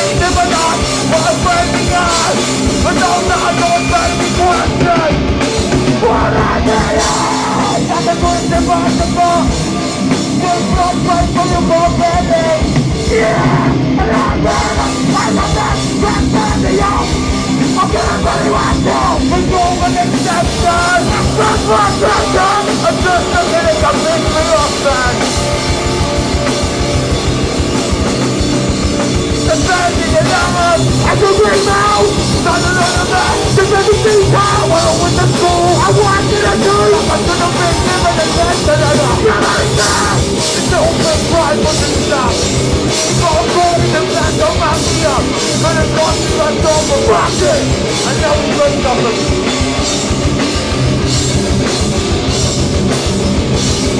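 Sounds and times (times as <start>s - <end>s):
distorted guitars and bass: 0.0s - 53.9s
fast drumming: 0.0s - 53.9s.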